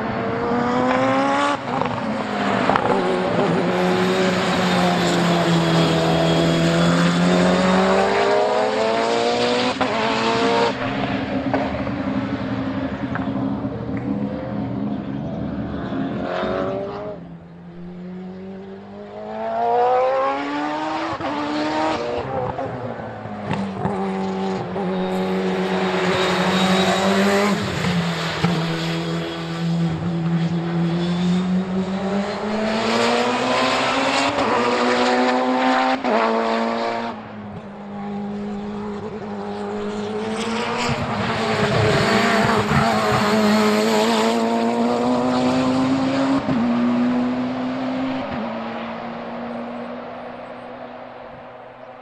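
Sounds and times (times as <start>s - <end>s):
race car engine at full throttle: 0.0s - 52.0s.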